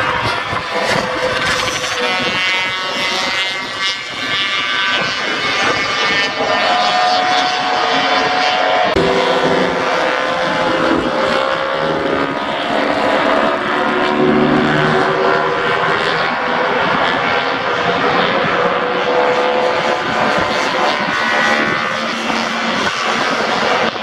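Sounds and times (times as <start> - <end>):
motorcycle engines revving high: 0.0 - 24.0.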